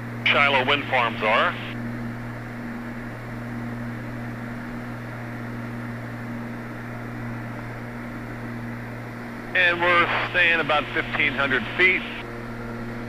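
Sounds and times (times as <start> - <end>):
aircraft engines and propellers droning: 0.0 - 13.0.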